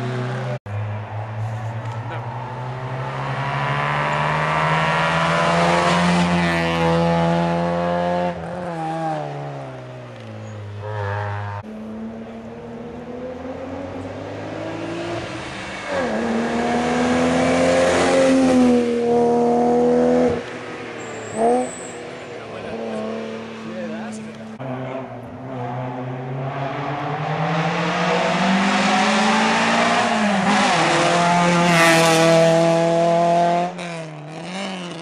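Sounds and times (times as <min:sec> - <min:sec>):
car approaching through gears: 0:00.0 - 0:35.0
rally car engine revving: 0:01.8 - 0:35.0.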